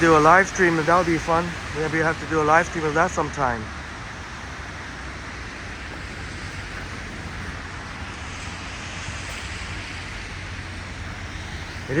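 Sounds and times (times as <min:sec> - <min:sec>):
low traffic rumble: 0:00.0 - 0:12.0
tyres hissing on wet pavement: 0:00.0 - 0:12.0.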